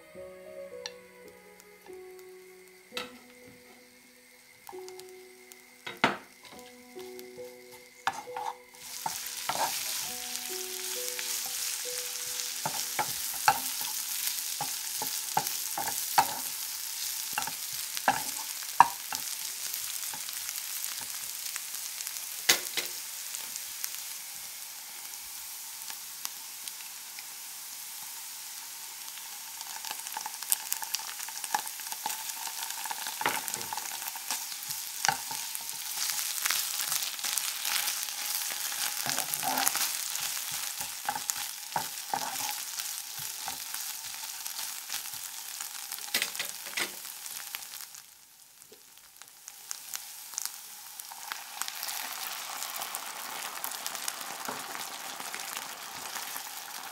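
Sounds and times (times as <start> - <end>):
onions sizzling in oil: 0.0 - 56.9.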